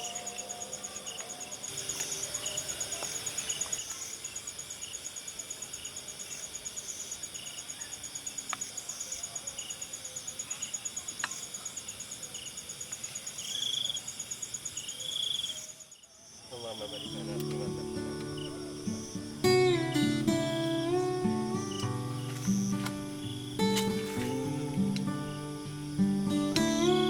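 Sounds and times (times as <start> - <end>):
insect buzzing calls: 0.0 - 27.0
insects trilling: 0.0 - 27.0
short insect chirps: 0.0 - 27.0.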